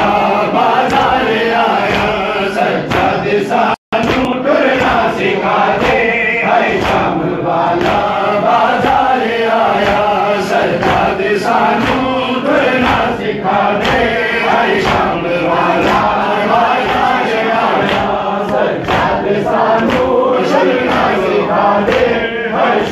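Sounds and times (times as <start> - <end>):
chest-beating slaps: 0.0 - 22.9
crowd of men chanting: 0.0 - 22.9
lead voice on a microphone: 0.0 - 22.9.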